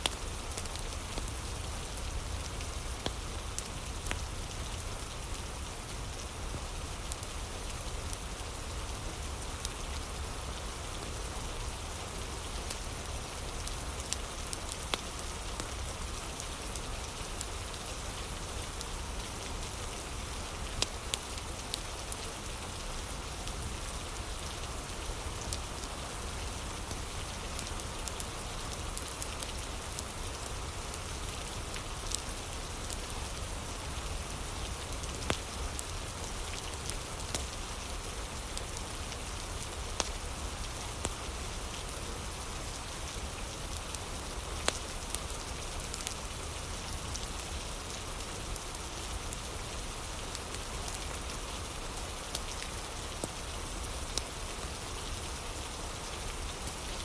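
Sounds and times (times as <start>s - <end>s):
steady rain hissing: 0.0s - 57.0s
wood fire crackling: 0.0s - 57.0s.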